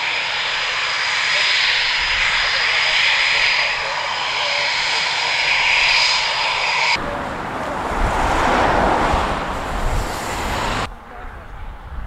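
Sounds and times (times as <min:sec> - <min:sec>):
jet engine whine and hiss: 0:00.0 - 0:10.9.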